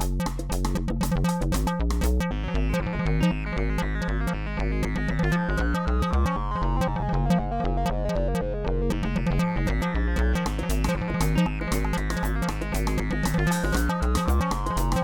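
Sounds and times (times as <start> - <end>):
synthesizer and keyboard music: 2.0 - 15.0.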